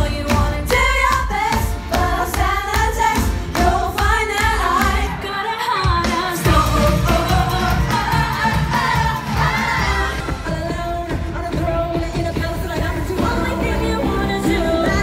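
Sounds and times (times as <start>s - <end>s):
band with heavy beat: 0.0s - 15.0s
women singing pop: 0.0s - 15.0s.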